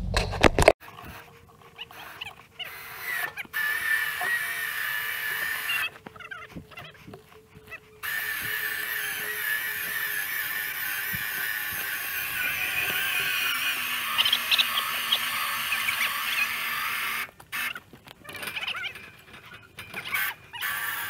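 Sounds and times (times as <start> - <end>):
electric winch running: 0.8 - 21.0.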